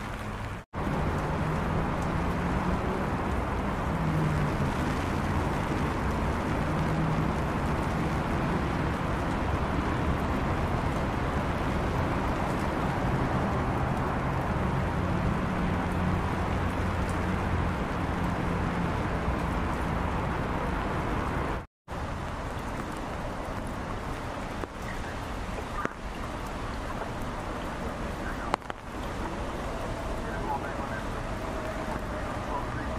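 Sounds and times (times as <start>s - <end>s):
engine running low hum: 0.0s - 32.9s
steady rain: 0.0s - 32.9s.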